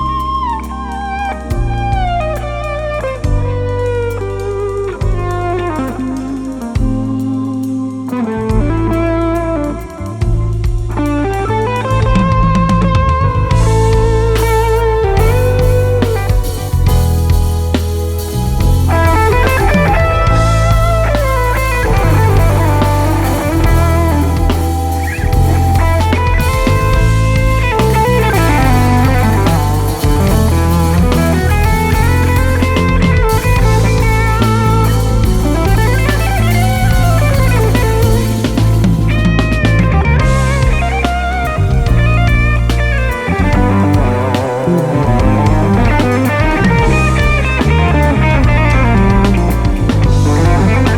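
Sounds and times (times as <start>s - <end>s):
electric guitar lead lines: 0.0s - 50.9s
live band playing: 0.0s - 50.9s.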